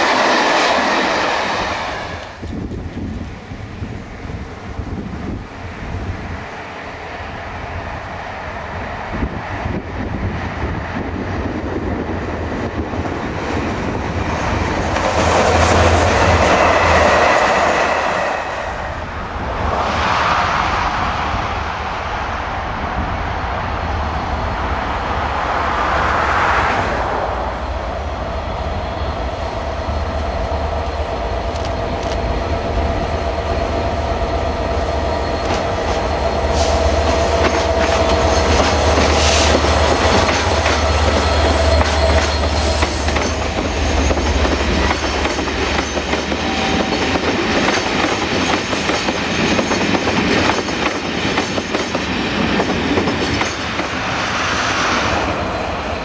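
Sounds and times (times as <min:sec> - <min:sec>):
diesel locomotive engine rumbling: 0:00.0 - 0:56.0.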